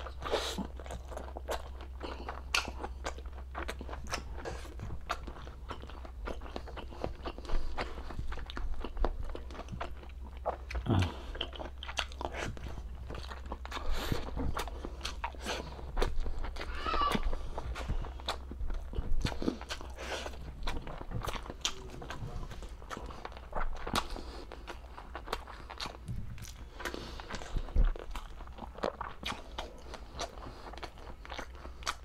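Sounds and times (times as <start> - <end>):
chewing with wet smacks: 0.0 - 32.0.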